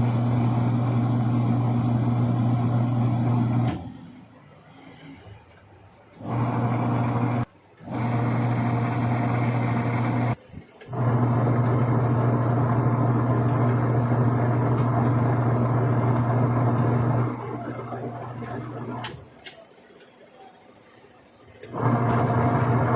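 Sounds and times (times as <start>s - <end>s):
washing machine motor humming: 0.0s - 4.3s, 6.1s - 19.4s, 21.5s - 22.9s.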